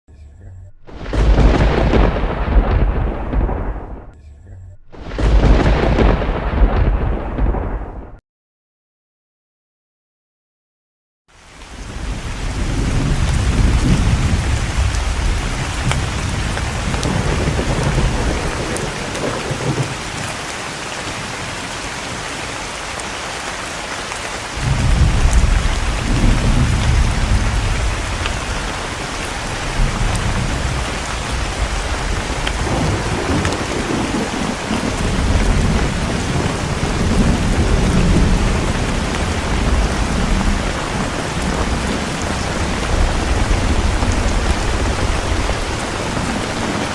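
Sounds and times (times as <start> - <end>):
rolling thunder: 0.8 - 4.1, 4.9 - 8.2, 11.6 - 46.9
thunder clap: 0.8 - 4.2, 4.9 - 8.2, 11.6 - 46.9
heavy rain: 0.9 - 4.1, 4.9 - 8.0, 11.3 - 46.9.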